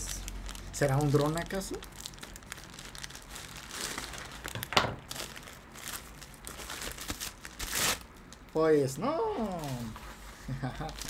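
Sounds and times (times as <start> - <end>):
thin plastic crinkling: 0.0 - 8.6, 9.4 - 11.0.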